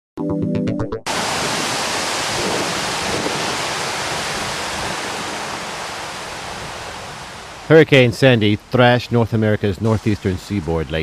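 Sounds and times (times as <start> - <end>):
storm wind and water rushing: 1.1 - 11.0.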